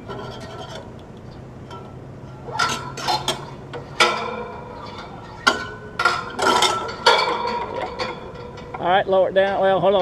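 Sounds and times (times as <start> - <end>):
metal hardware clanking: 0.0 - 10.0.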